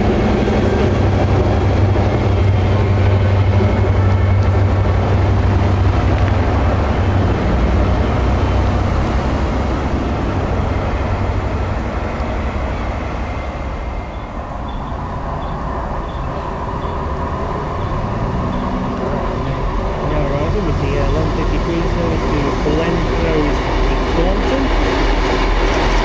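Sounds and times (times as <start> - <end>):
diesel train engine rumble: 0.0 - 26.0
rail rumble of approaching train: 0.0 - 26.0.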